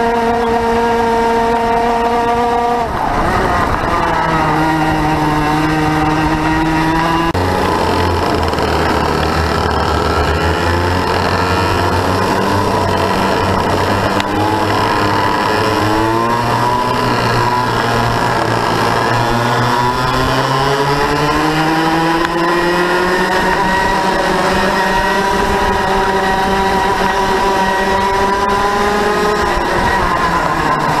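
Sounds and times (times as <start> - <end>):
racing kart engine revving: 0.0 - 31.0.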